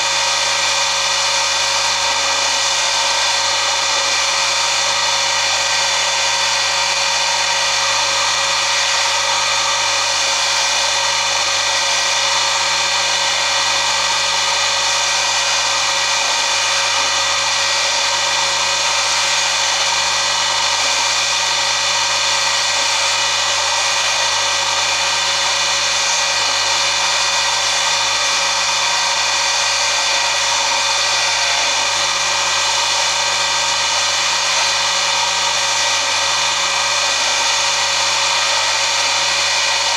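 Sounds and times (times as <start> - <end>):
polishing motor whirring: 0.0 - 39.9.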